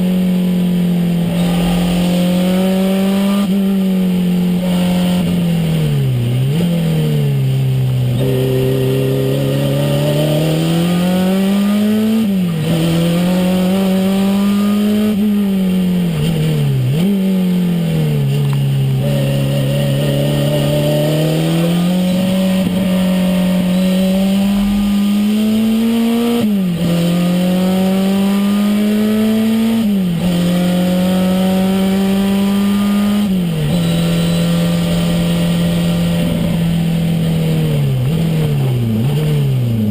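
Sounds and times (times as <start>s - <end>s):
turbocharged car engine accelerating: 0.0s - 39.9s.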